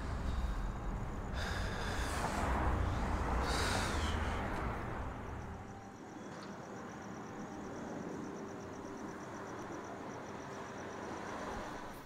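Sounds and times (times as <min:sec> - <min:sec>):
insects chirping: 0:00.0 - 0:12.0
vehicle passing with hiss and rumble: 0:00.0 - 0:12.0.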